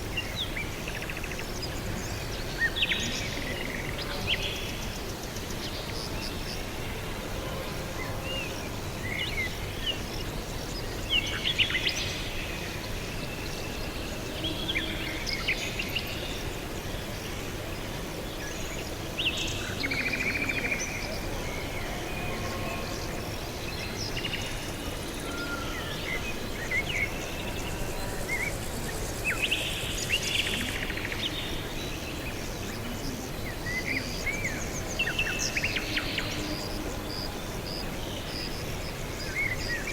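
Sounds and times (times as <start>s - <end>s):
steady background noise: 0.0s - 39.9s.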